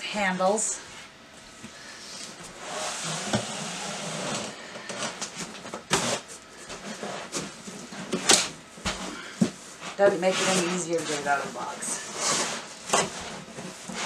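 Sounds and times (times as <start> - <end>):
fabric and plastic wrap rustling: 2.3 - 14.0.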